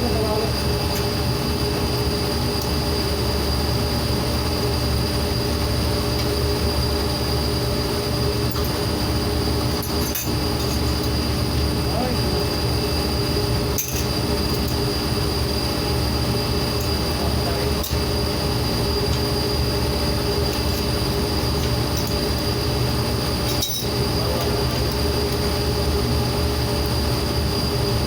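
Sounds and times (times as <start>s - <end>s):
industrial machinery drone: 0.0s - 28.0s.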